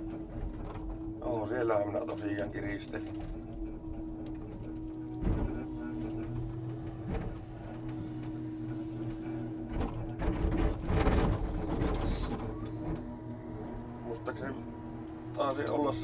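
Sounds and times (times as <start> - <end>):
rattling and clattering: 0.0 - 16.0
truck engine drone: 0.0 - 16.0.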